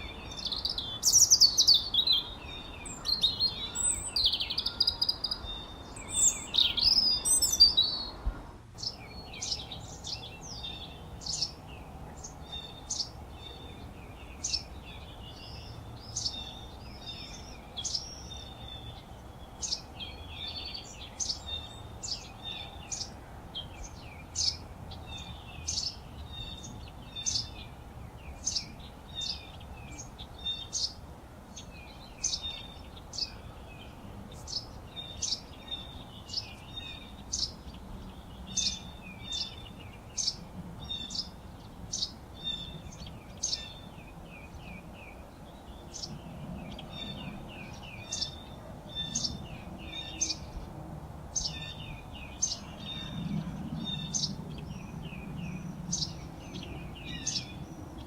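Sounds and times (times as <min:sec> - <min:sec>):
birds chirping and whistling: 0:00.0 - 0:08.2, 0:08.8 - 0:31.0, 0:31.6 - 0:50.7, 0:51.4 - 0:58.0
faint low background noise: 0:00.0 - 0:58.0.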